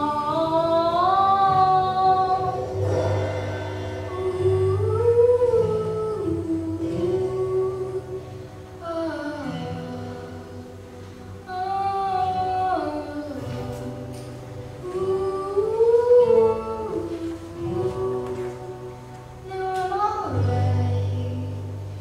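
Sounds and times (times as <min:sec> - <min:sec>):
acoustic guitar: 0:00.0 - 0:22.0
girl singing slow song: 0:00.0 - 0:22.0.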